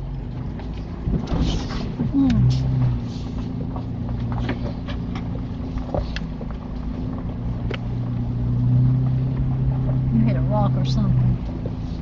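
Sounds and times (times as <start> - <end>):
vehicle engine running at low speed: 0.0 - 12.0.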